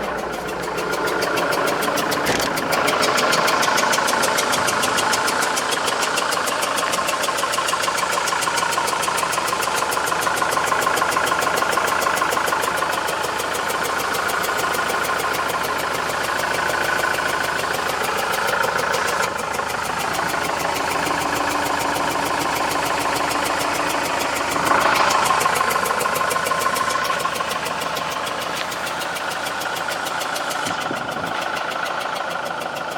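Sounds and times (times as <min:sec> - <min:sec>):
diesel engine rattling: 0:00.0 - 0:32.9.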